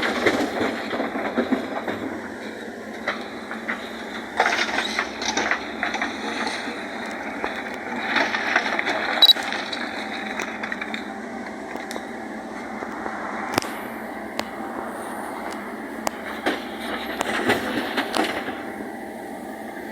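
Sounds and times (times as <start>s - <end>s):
backhoe engine running: 0.0s - 19.9s.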